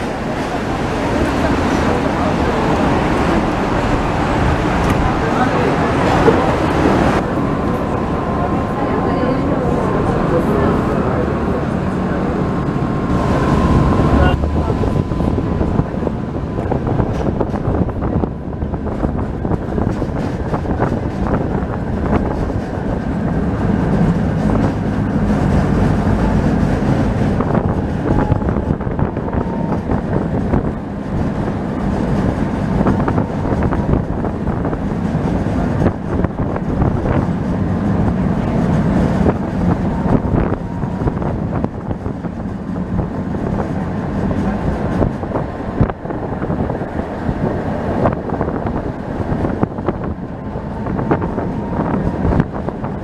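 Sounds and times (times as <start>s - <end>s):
street traffic rumble: 0.0s - 53.0s
tram passing: 0.0s - 53.0s.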